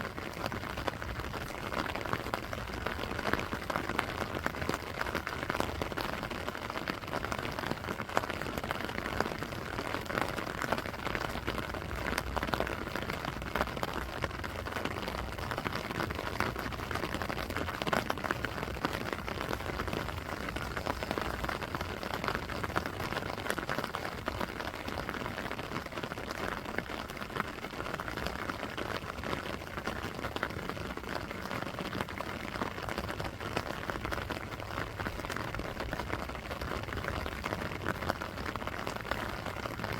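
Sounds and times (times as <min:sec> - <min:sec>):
raindrop ticks: 0:00.0 - 0:39.9
steady rainfall: 0:00.0 - 0:39.9.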